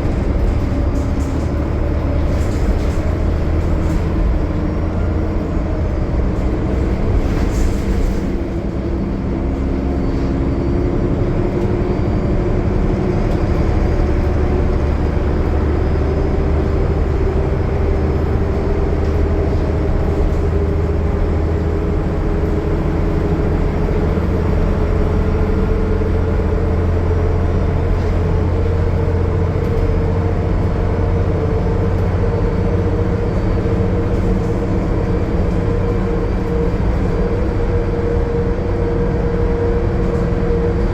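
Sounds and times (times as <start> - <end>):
bus diesel engine droning: 0.0 - 40.9
road noise: 0.0 - 40.9.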